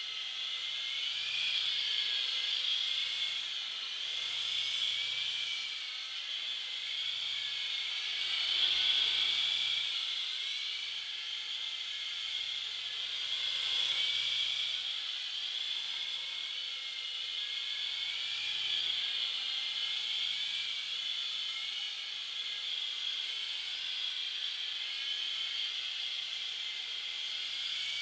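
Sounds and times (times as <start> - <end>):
toy helicopter rotor whine: 0.0 - 28.0.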